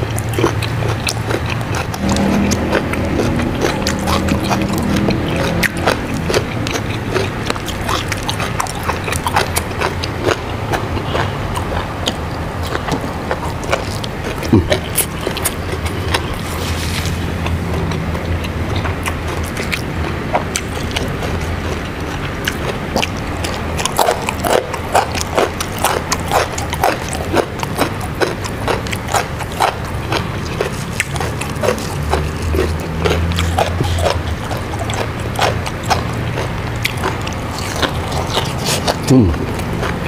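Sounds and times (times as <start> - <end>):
crunching and chewing vegetables: 0.0 - 40.0
steady low hum: 0.0 - 40.0.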